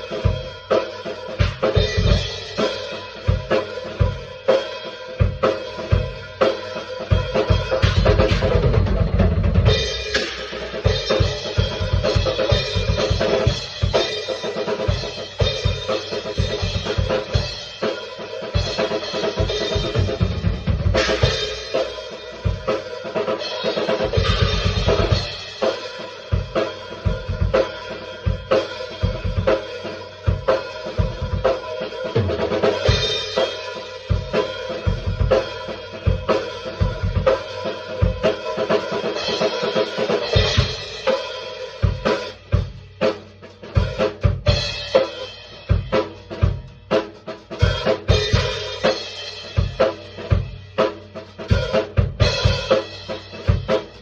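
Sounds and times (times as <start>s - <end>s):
drum kit playing: 0.0s - 54.0s.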